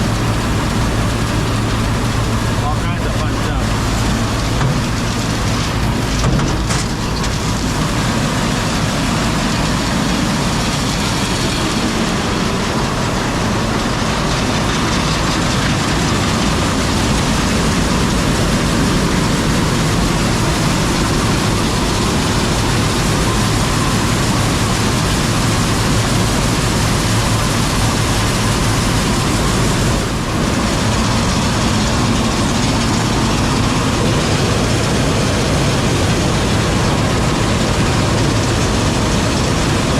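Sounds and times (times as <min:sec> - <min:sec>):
machinery running: 0:00.0 - 0:39.9.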